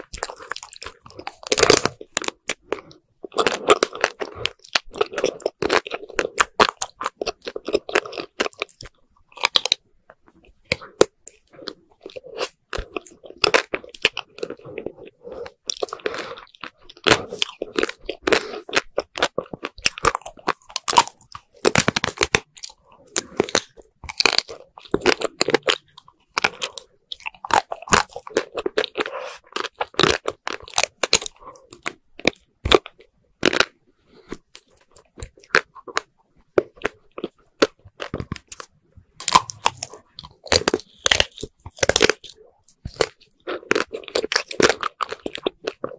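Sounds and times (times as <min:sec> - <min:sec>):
frozen coating cracking and crunching: 0:00.0 - 0:45.9
soft chewing: 0:00.0 - 0:45.9.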